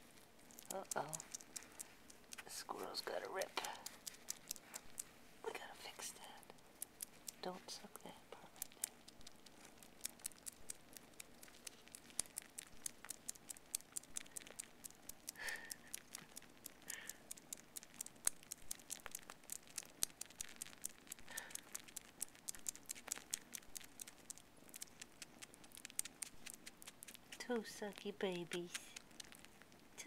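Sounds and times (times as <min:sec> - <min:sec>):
kittens suckling wet clicks: 0:00.0 - 0:30.0.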